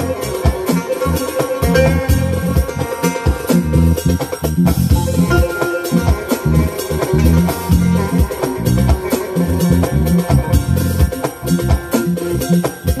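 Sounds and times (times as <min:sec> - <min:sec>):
drum beat: 0:00.0 - 0:13.0
string instrument lead: 0:00.0 - 0:13.0.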